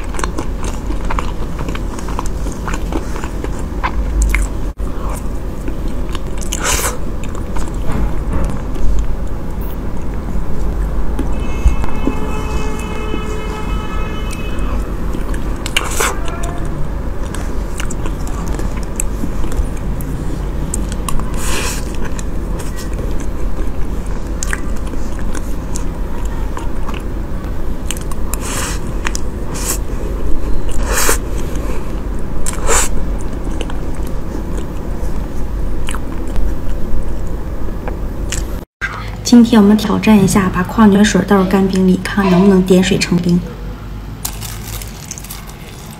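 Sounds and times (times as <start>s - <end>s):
person chewing: 0.0s - 38.6s, 44.2s - 45.9s.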